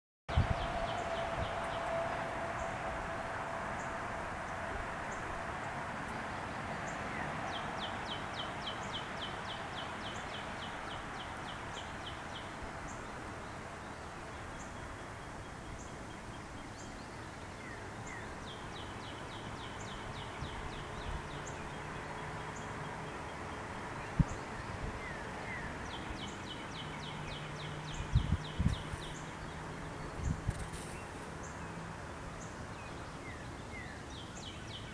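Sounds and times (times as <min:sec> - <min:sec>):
small songbirds chirping: 0:00.3 - 0:02.9, 0:03.7 - 0:34.9.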